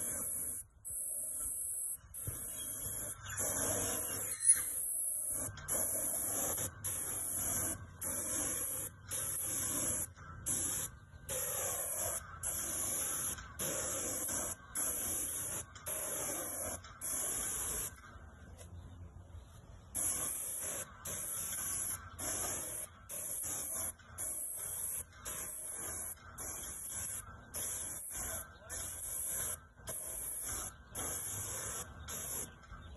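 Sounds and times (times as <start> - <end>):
paint sprayer hissing bursts: 0.0 - 18.0, 19.9 - 32.6.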